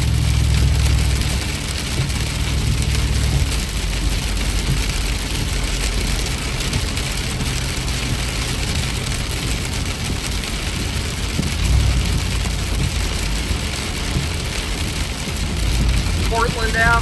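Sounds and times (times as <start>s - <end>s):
car engine and road rumble: 0.0s - 17.0s
rain and tyre spray hiss: 0.0s - 17.0s.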